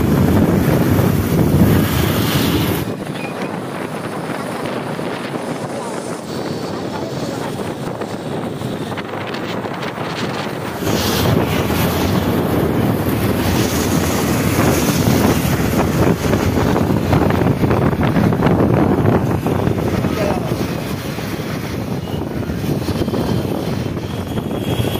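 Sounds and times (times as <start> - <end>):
rush of travel: 0.0 - 24.9
wind buffeting microphone: 0.0 - 24.9.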